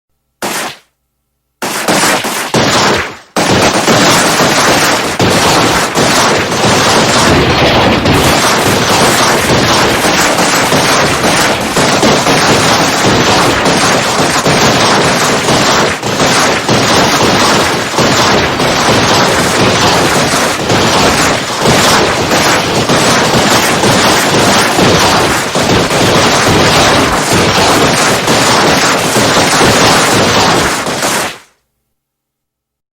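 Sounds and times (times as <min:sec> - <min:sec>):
automatic gunfire bursts: 0:00.4 - 0:00.9, 0:01.6 - 0:31.5
continuous gunfire: 0:00.4 - 0:00.9, 0:01.6 - 0:31.6.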